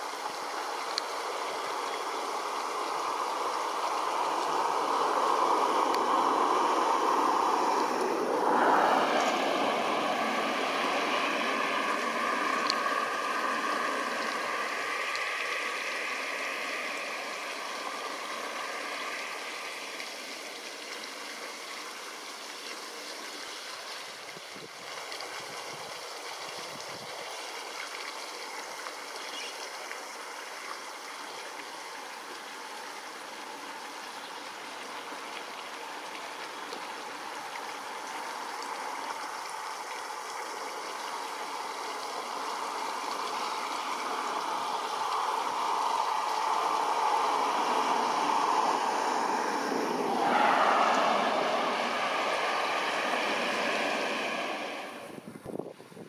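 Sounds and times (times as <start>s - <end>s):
outdoor background hiss: 0.0s - 56.0s.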